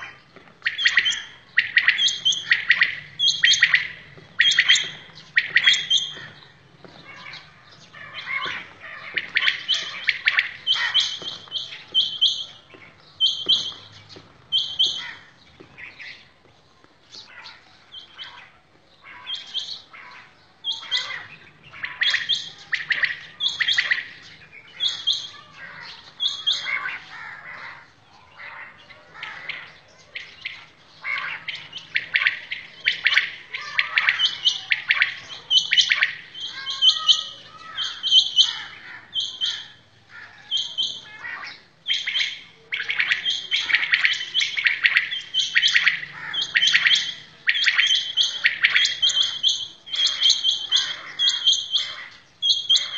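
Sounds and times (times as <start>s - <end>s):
quails calling: 0.0s - 16.4s, 17.1s - 52.9s.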